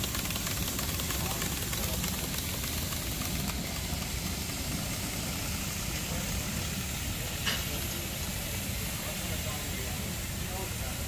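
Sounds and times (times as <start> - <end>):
steam locomotive chuffing and hissing: 0.0 - 11.0.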